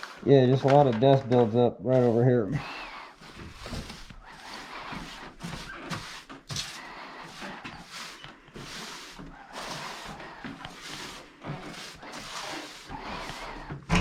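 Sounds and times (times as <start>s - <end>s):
broom sweeping floor: 0.0s - 14.0s.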